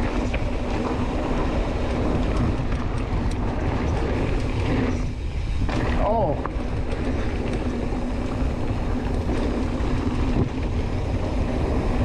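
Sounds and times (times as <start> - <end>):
bike rattles and clicks: 0.0 - 12.0
wind rushing over microphone: 0.0 - 12.0.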